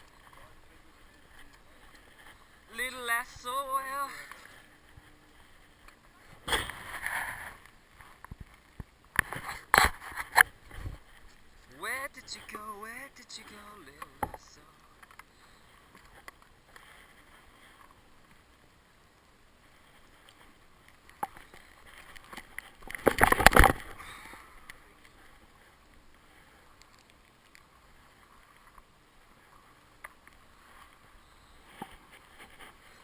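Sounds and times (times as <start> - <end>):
faint handling rustle: 0.0 - 33.0.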